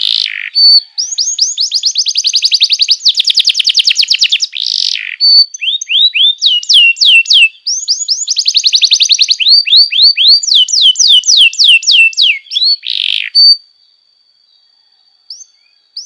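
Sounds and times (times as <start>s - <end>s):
canary singing trills: 0.0s - 16.0s
down-sweeping bird whistles: 0.3s - 13.7s.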